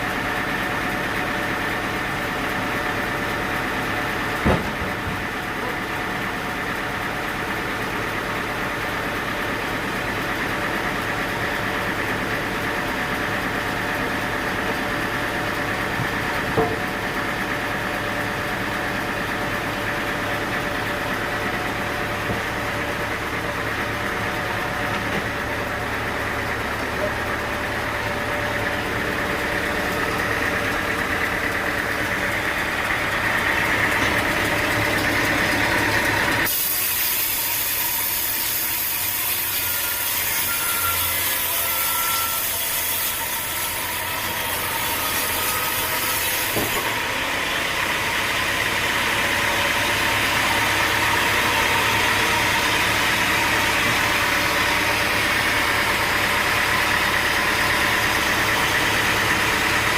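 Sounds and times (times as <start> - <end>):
saw cutting: 0.0 - 59.9
sawmill engine: 0.0 - 59.9.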